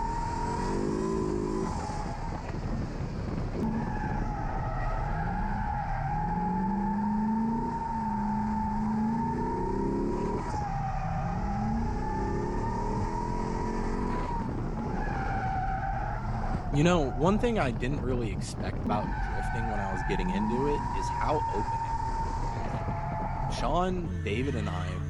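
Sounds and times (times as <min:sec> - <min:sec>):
car engine revving: 0:00.0 - 0:25.0
tire squeal: 0:00.0 - 0:25.0.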